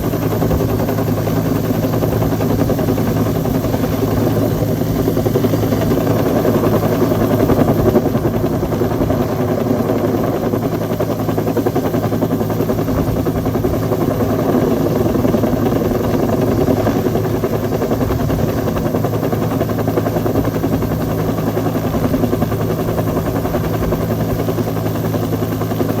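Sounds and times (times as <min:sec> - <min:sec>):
helicopter rotor chopping: 0:00.0 - 0:26.0.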